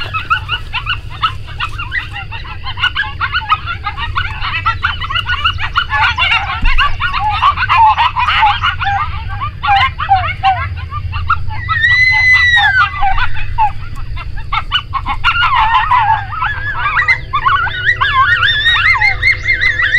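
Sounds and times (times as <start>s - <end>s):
coyotes yipping and howling: 0.0s - 19.9s
wind rumble on microphone: 0.0s - 19.9s.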